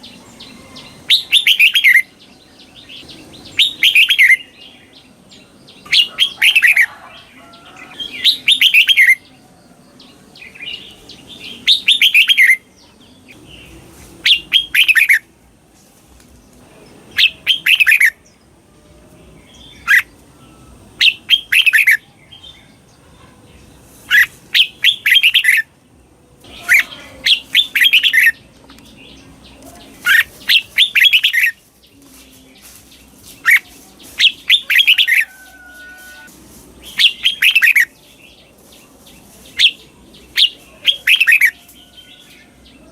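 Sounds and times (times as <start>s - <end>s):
bulbul singing: 0.0s - 15.5s, 16.3s - 42.9s.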